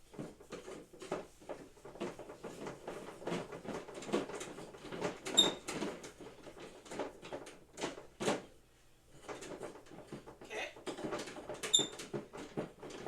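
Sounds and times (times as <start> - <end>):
equipment parts knocking and rattling: 0.0 - 13.0.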